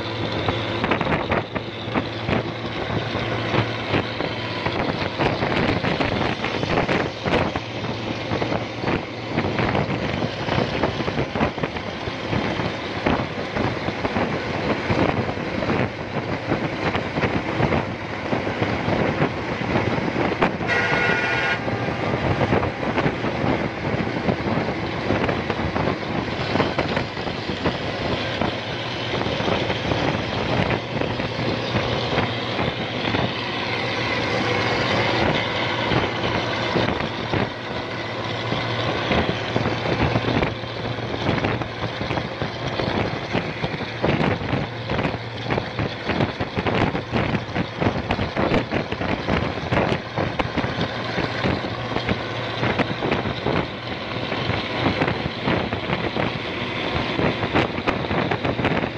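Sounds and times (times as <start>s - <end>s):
bus engine drone: 0.0s - 58.9s
road and wind noise: 0.0s - 58.9s.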